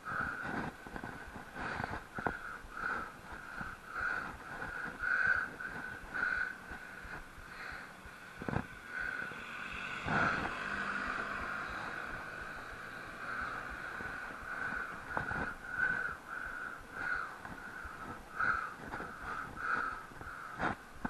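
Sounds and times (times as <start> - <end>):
steady high whine: 0.0 - 21.0
wind buffeting microphone: 0.0 - 21.0.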